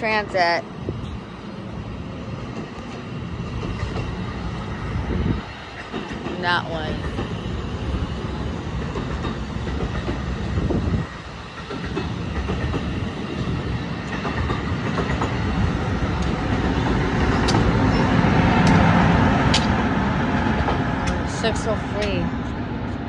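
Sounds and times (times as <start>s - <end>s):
electric locomotive passing: 0.0s - 23.0s
train passing at speed: 0.0s - 23.0s
wheels on rails: 1.0s - 23.0s.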